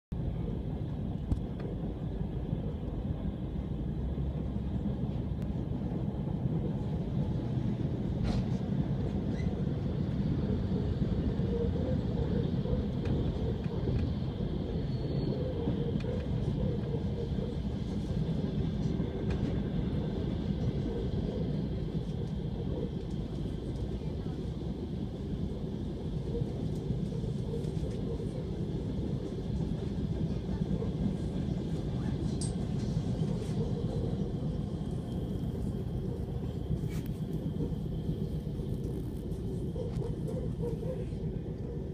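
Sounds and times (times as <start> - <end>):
electric train rumbling: 0.1 - 41.9.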